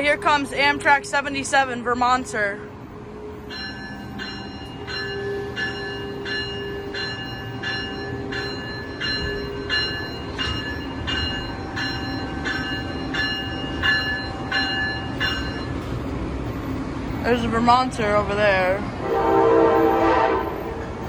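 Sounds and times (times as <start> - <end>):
locomotive bell ringing: 0.0 - 18.5
train rumbling: 0.0 - 21.0.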